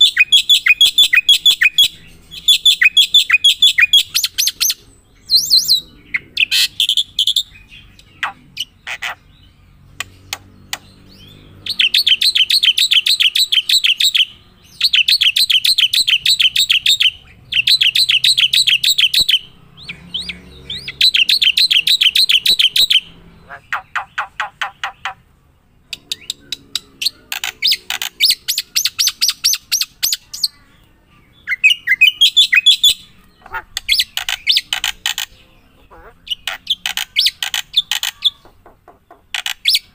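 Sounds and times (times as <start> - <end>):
bird singing high trills: 0.0 - 9.6, 10.9 - 24.9, 26.0 - 38.5
bird chirps: 0.0 - 39.9.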